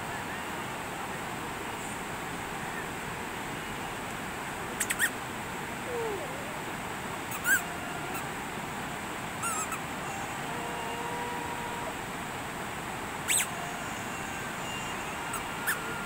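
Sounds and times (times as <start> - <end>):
rushing rocky river: 0.0 - 16.0.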